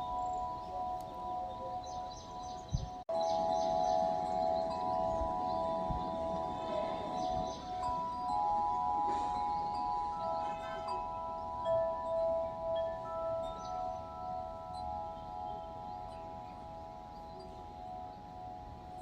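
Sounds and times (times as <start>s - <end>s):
ringing bell-like tones: 0.0s - 19.0s.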